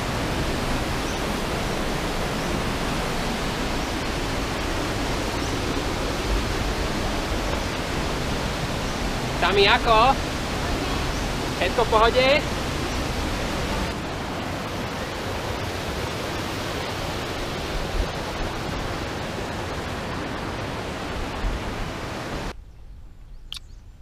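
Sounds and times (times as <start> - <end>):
rushing water: 0.0 - 22.6.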